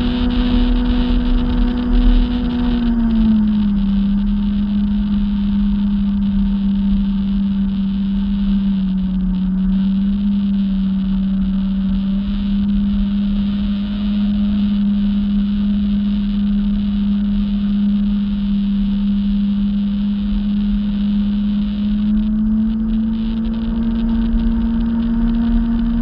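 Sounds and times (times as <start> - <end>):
jet ski engine droning: 0.0 - 26.0.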